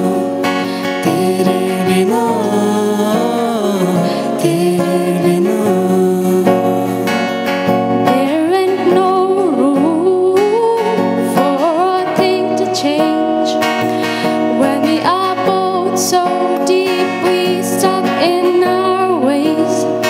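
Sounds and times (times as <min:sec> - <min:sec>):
person singing wordlessly: 0:00.0 - 0:07.5, 0:08.1 - 0:13.7, 0:14.5 - 0:20.0
acoustic guitar chords: 0:00.0 - 0:20.0.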